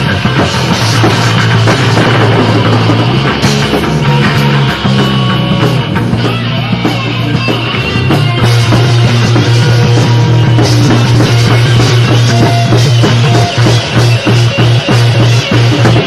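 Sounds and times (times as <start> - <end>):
drum kit: 0.0 - 16.0
guitar: 0.0 - 16.0.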